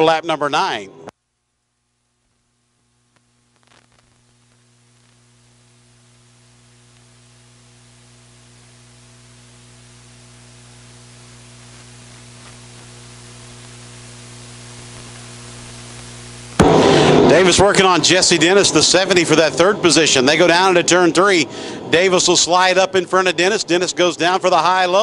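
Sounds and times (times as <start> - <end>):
electrical hum: 0.0 - 25.0
static hiss: 0.6 - 21.1.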